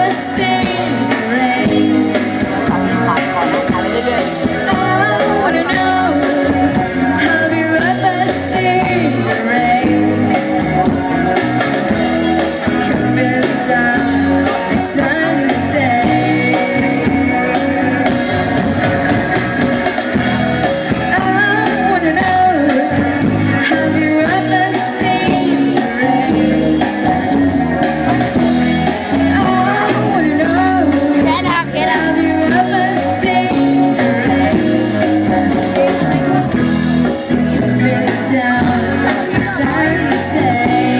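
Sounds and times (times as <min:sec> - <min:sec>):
drum kit: 0:00.0 - 0:40.9
electric guitar: 0:00.0 - 0:40.9
live rock band playing: 0:00.0 - 0:40.9.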